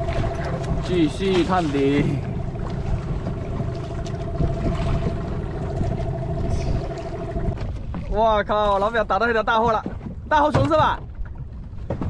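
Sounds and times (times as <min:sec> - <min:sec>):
boat engine idling: 0:00.0 - 0:09.8
wind and water rumble: 0:00.0 - 0:12.0.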